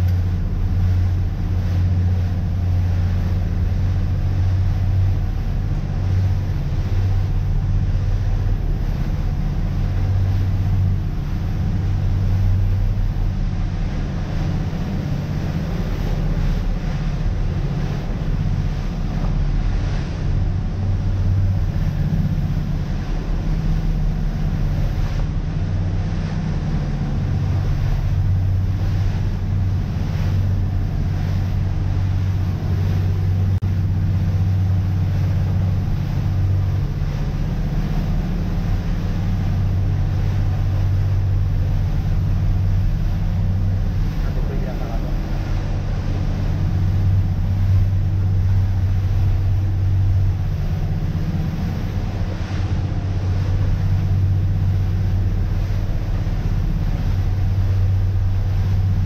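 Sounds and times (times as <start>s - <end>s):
boat engines droning: 0.0s - 59.0s
water rushing along hull: 0.0s - 59.0s
wind buffeting microphone: 0.0s - 59.0s.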